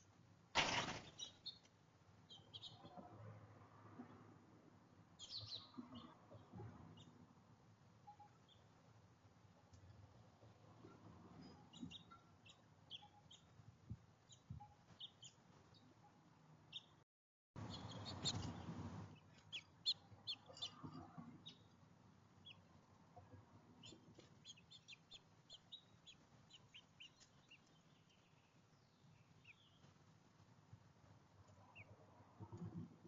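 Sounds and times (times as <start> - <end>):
songbirds chirping: 0.0 - 17.0, 17.6 - 33.0.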